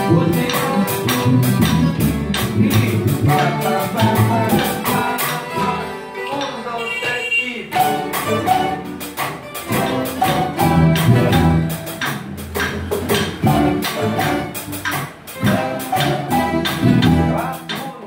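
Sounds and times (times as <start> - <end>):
plucked string ensemble playing: 0.0 - 18.0.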